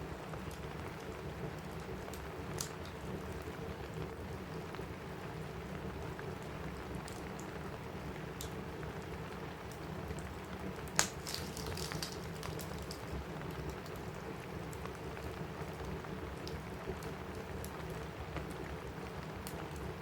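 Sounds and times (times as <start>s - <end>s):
rain on a roof: 0.0s - 20.0s
wood fire crackling: 0.0s - 20.0s.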